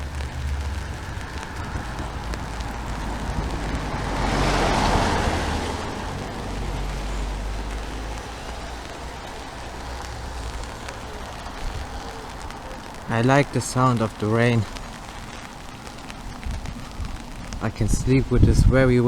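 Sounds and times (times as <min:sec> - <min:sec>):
car tyres hissing on wet road: 0:00.0 - 0:19.0
low traffic rumble: 0:00.0 - 0:19.0.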